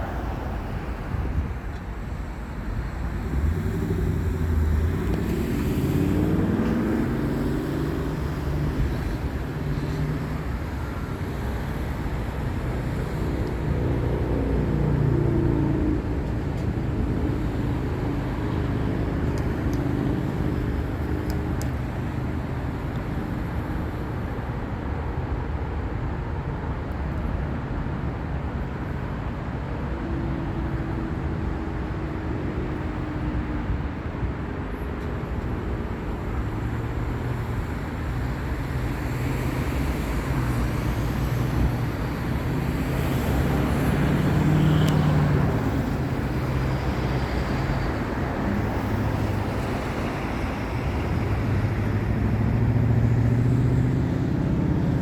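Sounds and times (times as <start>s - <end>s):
passing vehicle: 0.0s - 55.0s
road traffic: 0.0s - 55.0s.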